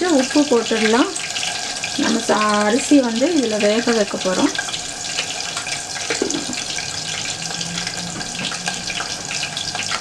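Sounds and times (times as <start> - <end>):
water heating in pot hissing: 0.0 - 10.0.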